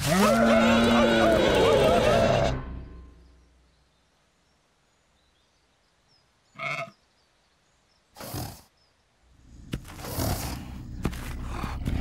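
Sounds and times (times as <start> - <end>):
faint birdsong: 1.2 - 12.0.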